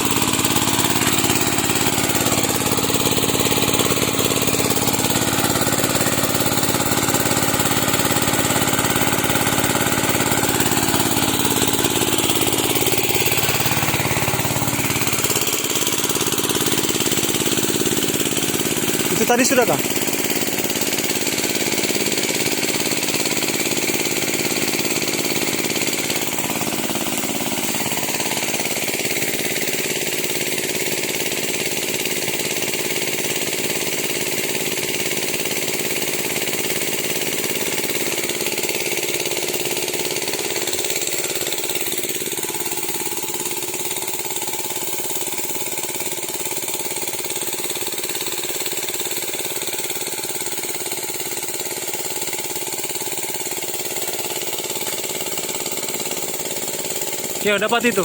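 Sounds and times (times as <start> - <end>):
power sprayer engine running: 0.0 - 58.0.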